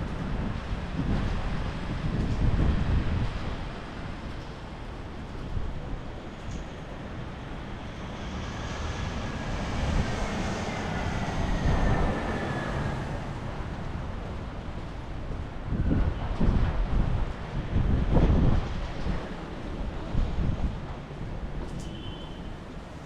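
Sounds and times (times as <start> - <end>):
storm wind gusting on microphone: 0.0 - 23.0.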